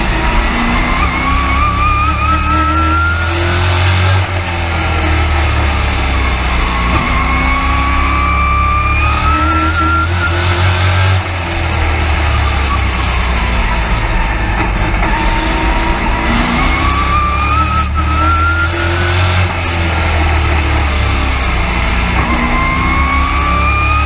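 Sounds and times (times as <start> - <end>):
truck engine accelerating: 0.0 - 24.0.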